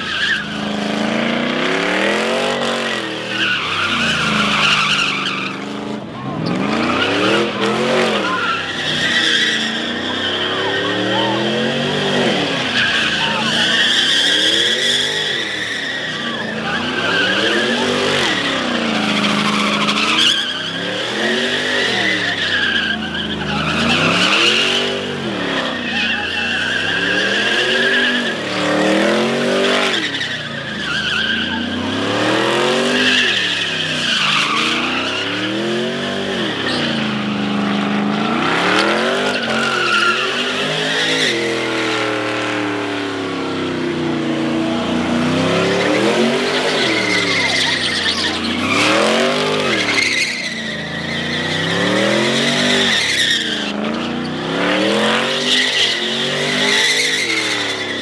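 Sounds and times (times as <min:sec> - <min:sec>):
car engine revving hard: 0:00.0 - 0:58.0
tyres squealing: 0:00.0 - 0:58.0.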